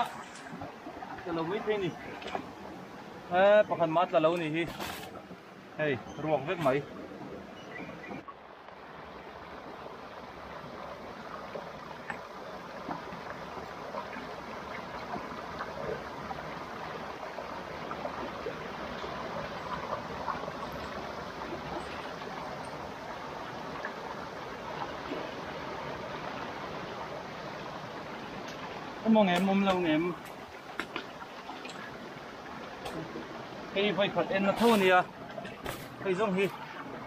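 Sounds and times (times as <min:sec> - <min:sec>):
stream rushing over stones: 0:00.0 - 0:37.0.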